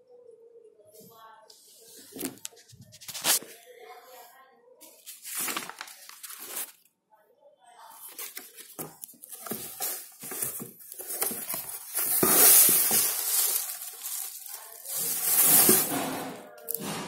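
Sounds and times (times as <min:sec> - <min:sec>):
rustling and scraping handling noise: 0:01.0 - 0:06.9, 0:07.8 - 0:17.0.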